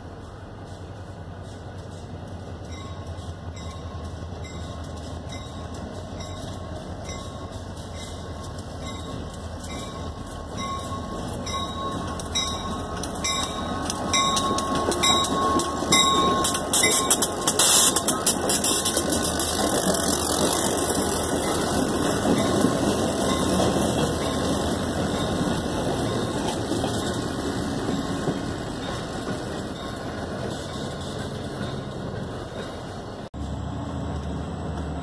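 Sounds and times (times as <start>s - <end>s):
diesel locomotive engine rumble: 0.0s - 35.0s
train wheels clicking on rail joints: 0.0s - 35.0s.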